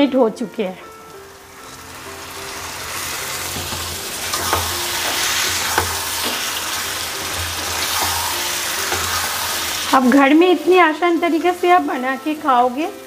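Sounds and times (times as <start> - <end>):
chicken sizzling in hot oil: 0.8 - 13.0.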